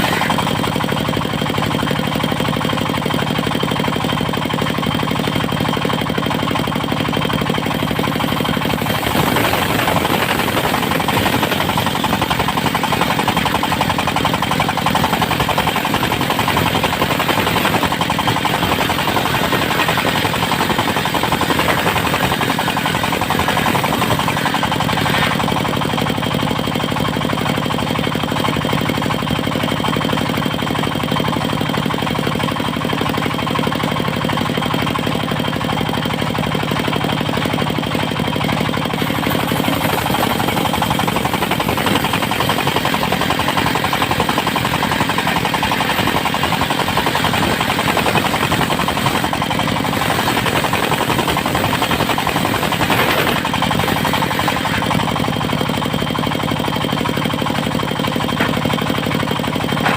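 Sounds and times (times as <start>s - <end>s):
sawmill engine pulsing: 0.0s - 59.9s.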